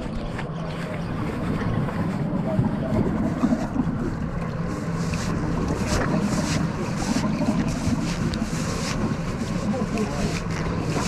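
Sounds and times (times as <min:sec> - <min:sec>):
sea water washing around boat: 0:00.0 - 0:11.0
wind buffeting microphone: 0:00.0 - 0:11.0.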